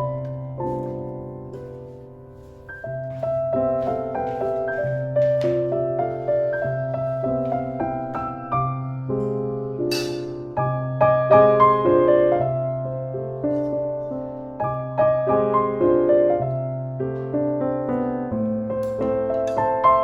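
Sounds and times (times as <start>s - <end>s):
background piano music: 0.0s - 20.0s.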